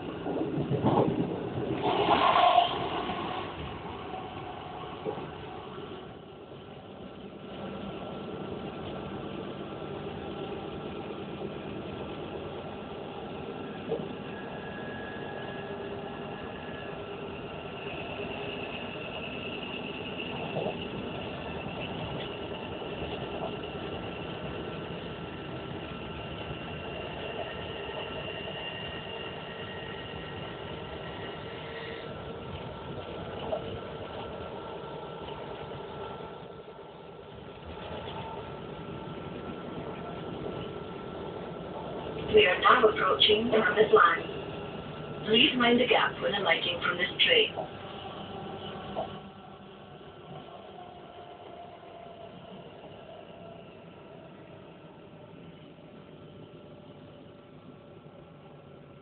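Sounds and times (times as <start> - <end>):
train wheels on rail: 0.0 - 56.8.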